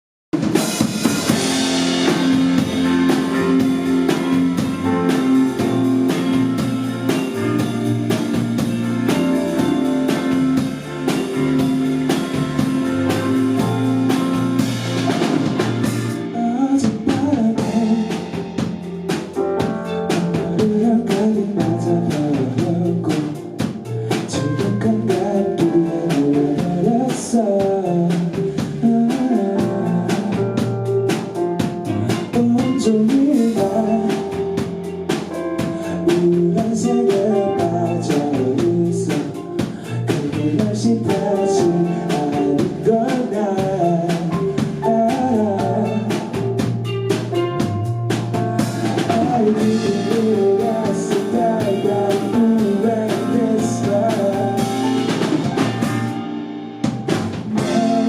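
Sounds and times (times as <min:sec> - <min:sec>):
band music with drums and guitar: 0:00.3 - 0:58.0.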